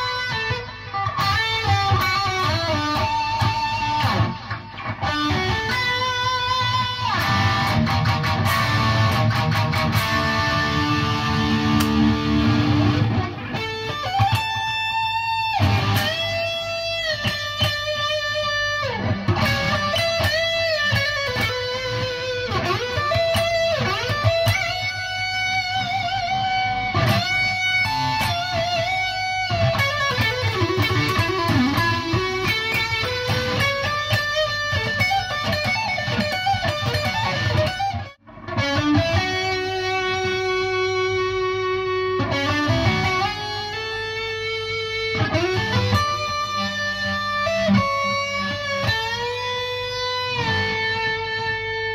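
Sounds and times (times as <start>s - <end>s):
electric guitar lead line: 0.0s - 51.9s.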